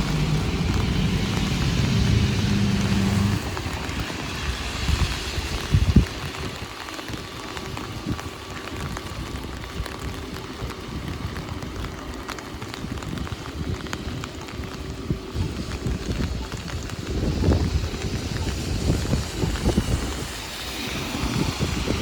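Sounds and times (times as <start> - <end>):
car passing on wet road: 0.0 - 22.0
rain pattering on umbrella: 0.0 - 22.0.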